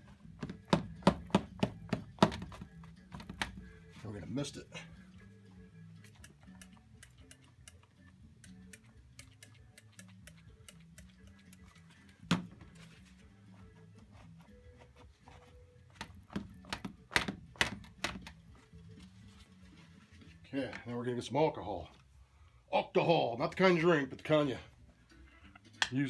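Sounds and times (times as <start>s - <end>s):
background music with ticking beat: 0.0s - 21.0s, 23.4s - 26.0s.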